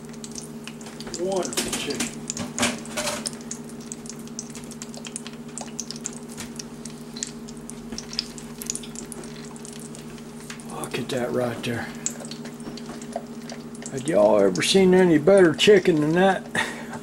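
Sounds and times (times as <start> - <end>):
oil crackling and popping: 0.0 - 17.0
steady low hum: 0.0 - 17.0.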